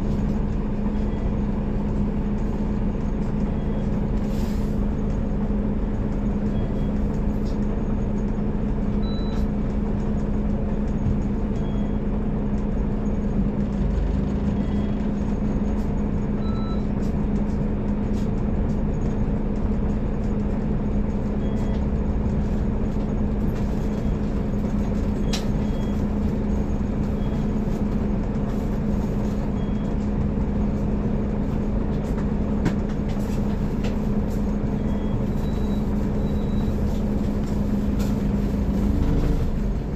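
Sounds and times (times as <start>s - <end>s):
diesel bus engine droning: 0.0s - 39.9s.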